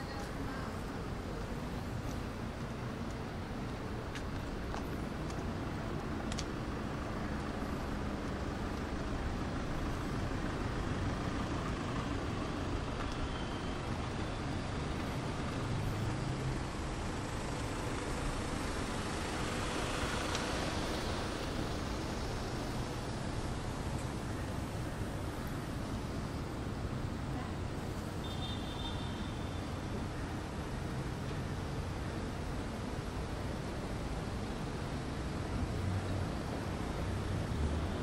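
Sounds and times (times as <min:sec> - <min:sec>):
road traffic: 0:00.0 - 0:38.0.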